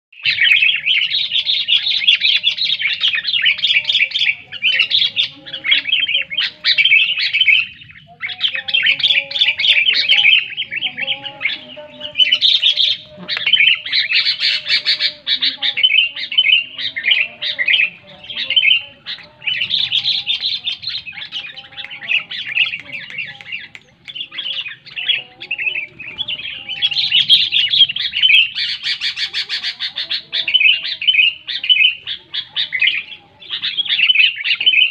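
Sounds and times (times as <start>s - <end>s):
bird singing rapid chirps: 0.1s - 34.9s.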